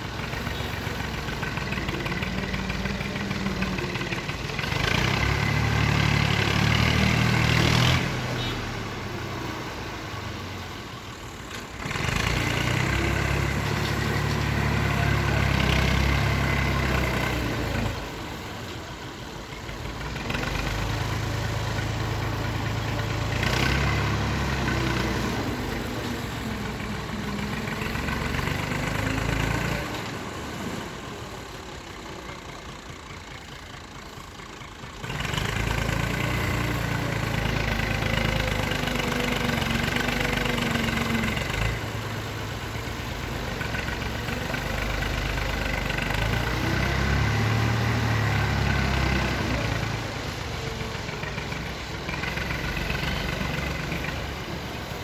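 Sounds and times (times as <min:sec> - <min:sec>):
excavator diesel engine revving: 0:00.0 - 0:55.0.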